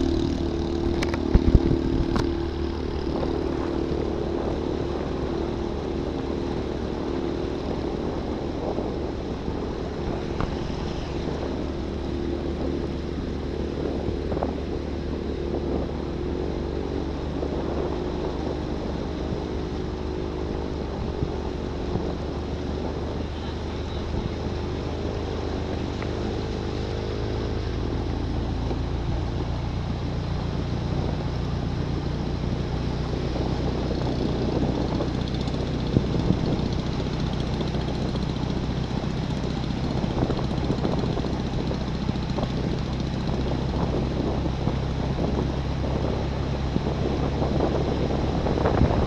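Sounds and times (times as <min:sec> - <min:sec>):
engine running low hum: 0:00.0 - 0:49.0.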